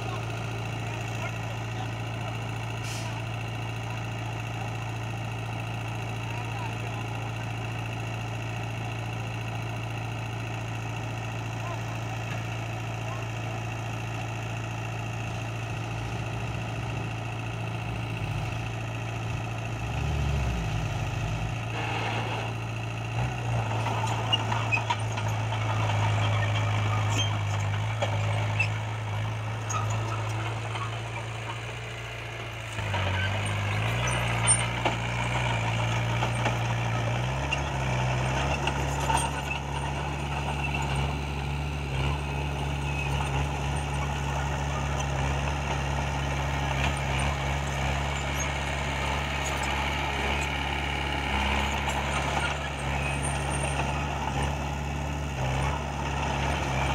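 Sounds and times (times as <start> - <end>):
bulldozer diesel engine: 0.0 - 56.9
dump truck diesel engine: 0.0 - 56.9.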